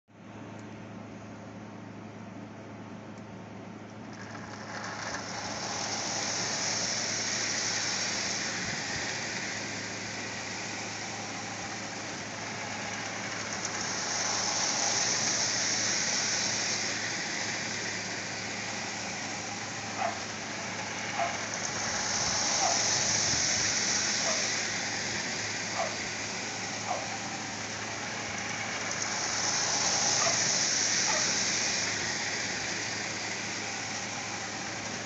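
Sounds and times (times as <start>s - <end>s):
wheels rattling on rails: 3.9s - 35.0s
toy train motor whirring: 4.0s - 35.0s.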